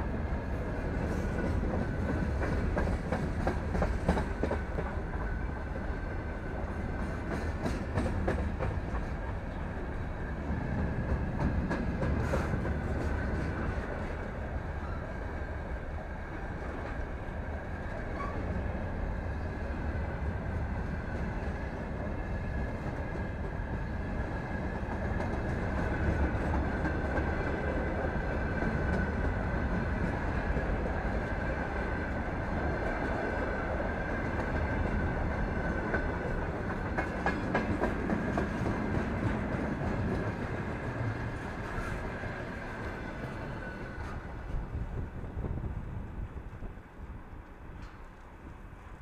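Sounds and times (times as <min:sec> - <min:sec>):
steel wheels rumbling on rails: 0:00.0 - 0:49.0.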